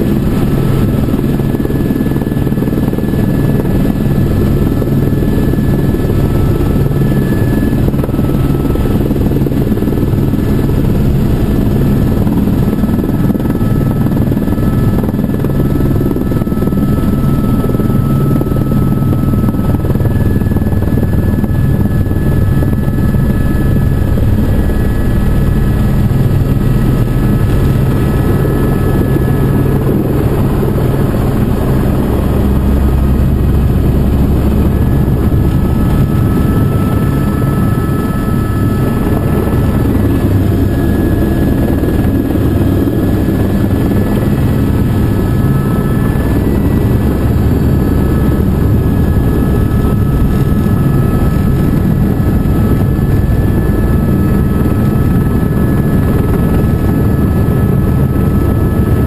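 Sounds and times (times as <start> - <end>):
helicopter engine and rotor rumble: 0.0 - 59.0.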